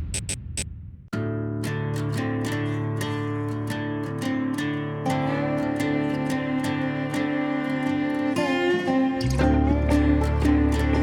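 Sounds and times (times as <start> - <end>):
strummed acoustic guitar music: 1.2 - 11.0.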